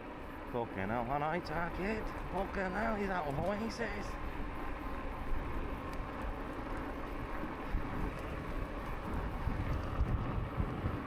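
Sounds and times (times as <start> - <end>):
bike tyre rumble: 0.0 - 11.0
wind buffeting microphone: 1.4 - 11.0.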